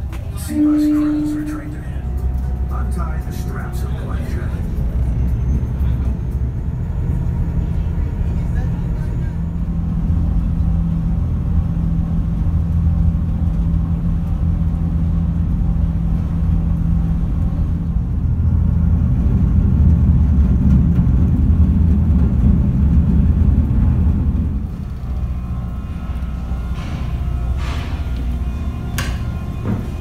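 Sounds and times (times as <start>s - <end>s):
ferry engines droning: 0.0s - 30.0s.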